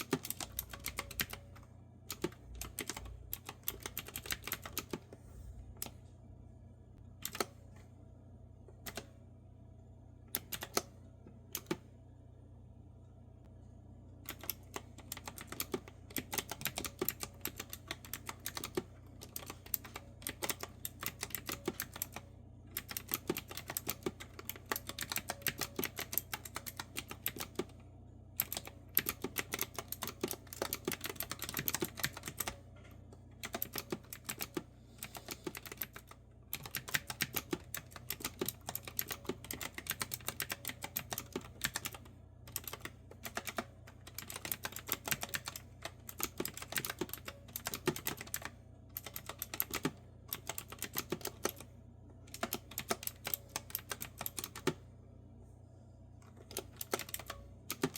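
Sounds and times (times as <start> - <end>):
clicky keyboard typing: 0.0 - 5.1, 7.2 - 7.6, 8.8 - 9.1, 10.3 - 11.9, 14.3 - 27.8, 28.4 - 51.7, 52.3 - 54.8, 56.2 - 57.9.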